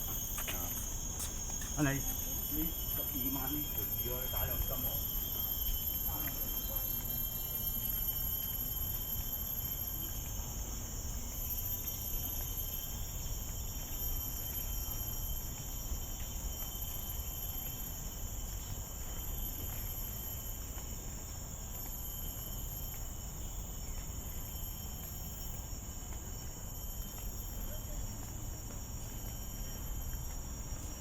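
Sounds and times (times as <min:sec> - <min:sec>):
forest insects shrilling: 0:00.0 - 0:25.8.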